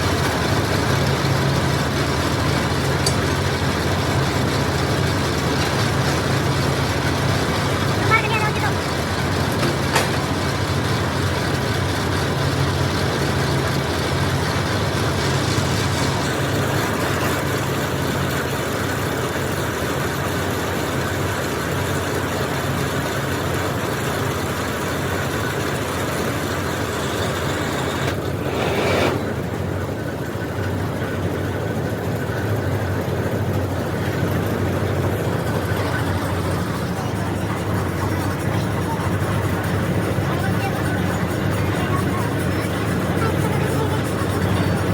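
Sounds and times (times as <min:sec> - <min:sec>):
drilling machine engine drone: 0:00.0 - 0:44.9.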